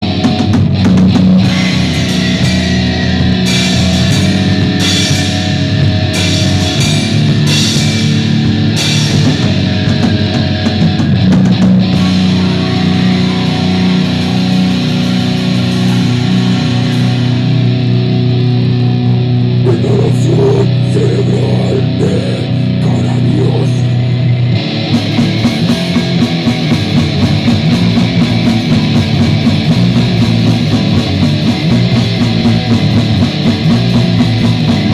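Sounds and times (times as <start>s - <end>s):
distorted electric guitar: 0.0s - 34.9s
drum kit: 0.0s - 34.9s.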